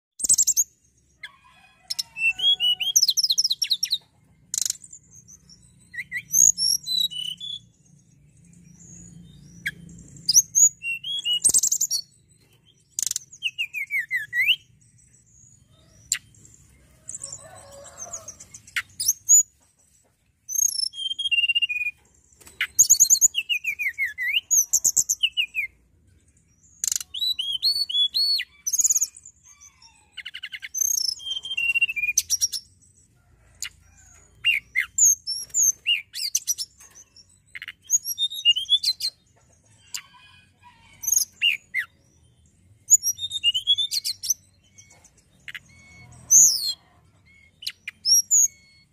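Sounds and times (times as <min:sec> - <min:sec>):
songbird singing: 0:00.2 - 0:48.9.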